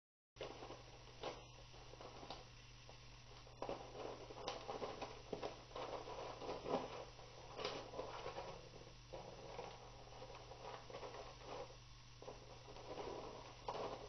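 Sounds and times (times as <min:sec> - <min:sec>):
cat scratching in litter: 0:00.4 - 0:14.0.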